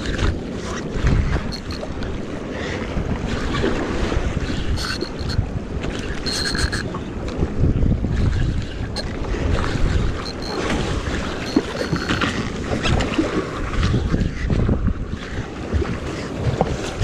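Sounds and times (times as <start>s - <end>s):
water washing against boat: 0.0s - 17.0s
wind buffeting microphone: 0.0s - 17.0s.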